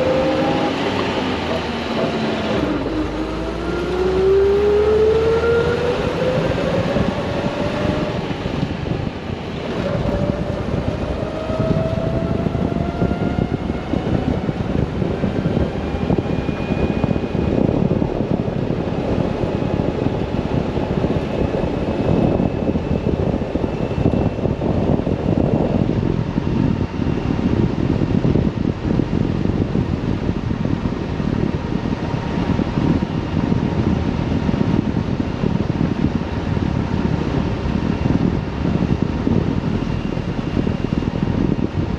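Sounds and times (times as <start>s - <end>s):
car engine accelerating: 0.0s - 39.9s
wind and road noise: 0.0s - 41.9s.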